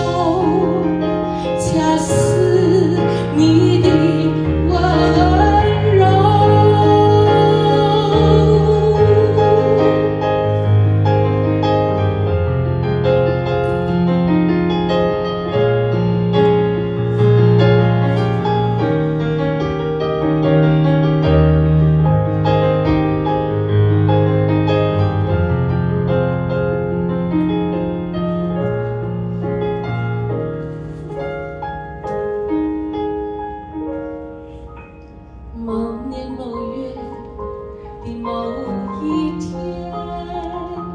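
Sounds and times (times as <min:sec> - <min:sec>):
slow piano ballad: 0:00.0 - 0:40.9.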